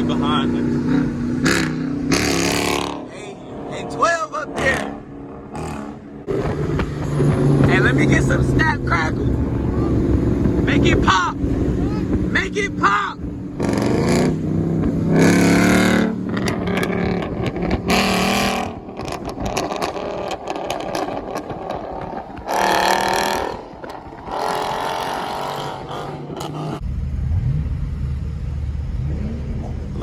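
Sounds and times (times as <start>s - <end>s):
car engine revving: 0.0s - 30.0s
exhaust popping and crackling: 4.0s - 30.0s.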